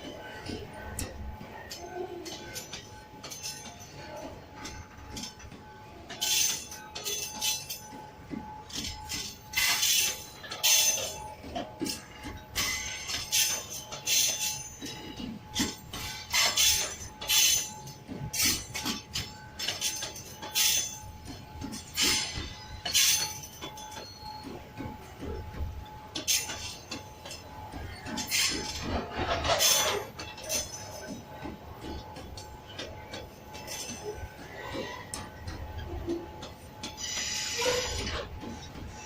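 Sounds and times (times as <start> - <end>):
metallic clanks and clicks: 0.0 - 39.0
train wagons rumbling past: 0.0 - 39.0.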